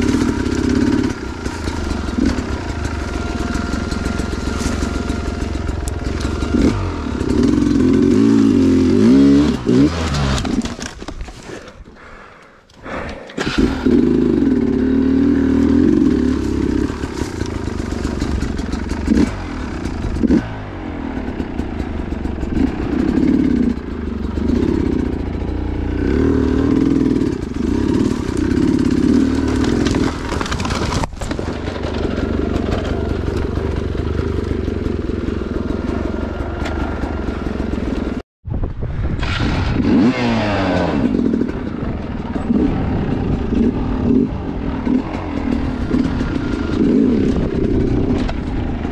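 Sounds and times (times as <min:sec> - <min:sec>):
dirt bike engine revving: 0:00.0 - 0:10.8, 0:13.4 - 0:38.2, 0:39.1 - 0:48.9.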